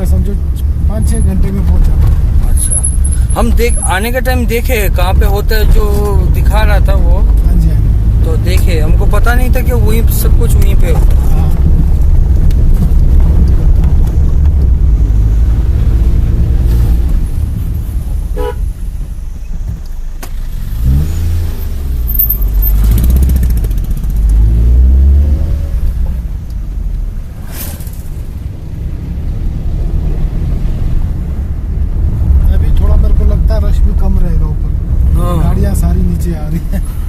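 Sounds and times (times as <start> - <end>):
engine and road rumble: 0.0 - 37.0.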